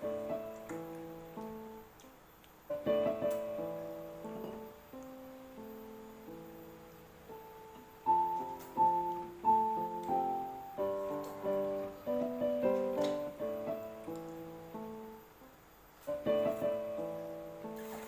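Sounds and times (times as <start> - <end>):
piano music: 0.0 - 2.0, 2.7 - 18.0.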